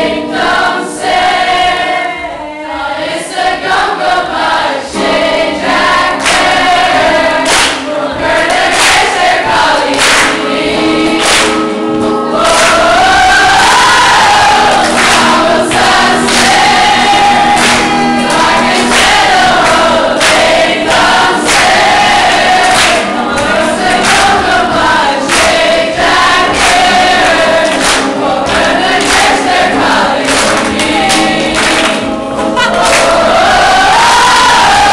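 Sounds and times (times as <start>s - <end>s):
group of young people singing: 0.0s - 34.9s.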